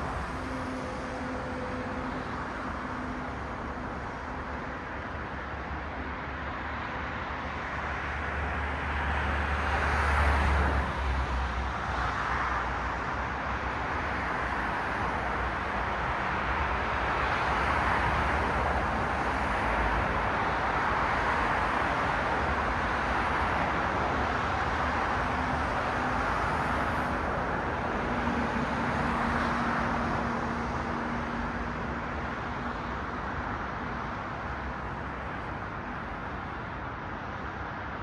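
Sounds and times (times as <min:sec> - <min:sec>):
cars passing: 0:07.1 - 0:38.0.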